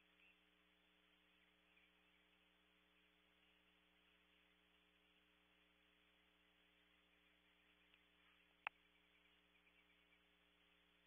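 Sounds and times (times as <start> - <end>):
faint electrical hum with hiss: 0.0 - 11.0.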